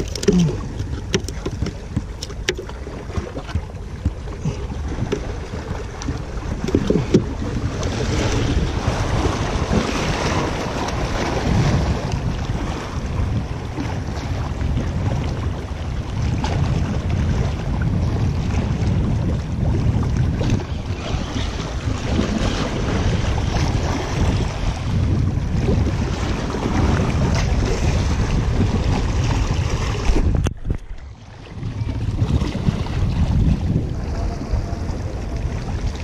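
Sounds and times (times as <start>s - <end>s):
sea surf against rocks: 0.0s - 36.0s
wind buffeting microphone: 0.0s - 36.0s.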